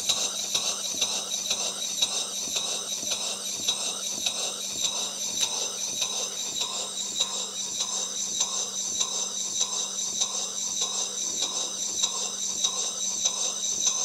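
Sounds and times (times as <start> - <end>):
steam engine hissing and puffing: 0.0 - 14.0.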